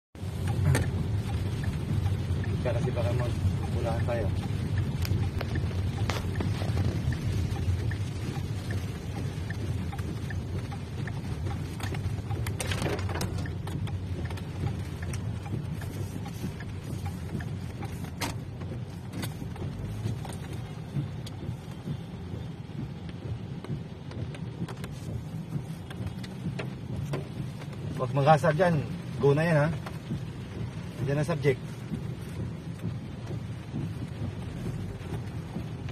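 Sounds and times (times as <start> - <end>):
car cabin rumble: 0.2 - 35.9
rain ticking on car: 0.2 - 35.9.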